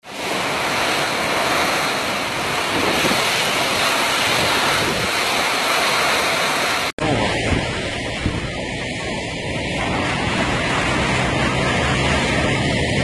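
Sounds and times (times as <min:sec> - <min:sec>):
heavy rain pouring: 0:00.0 - 0:13.0
wind thrashing palm trees: 0:00.0 - 0:13.0
wind buffeting microphone: 0:00.1 - 0:13.0.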